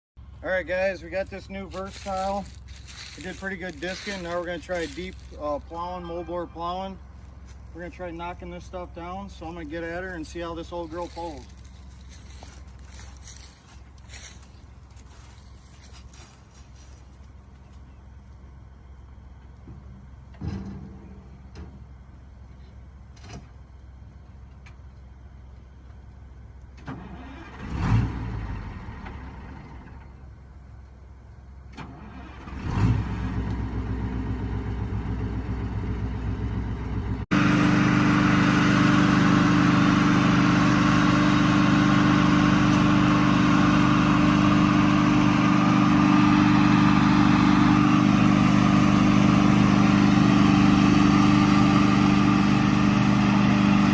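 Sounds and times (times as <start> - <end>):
tractor diesel engine: 0.2 - 53.9.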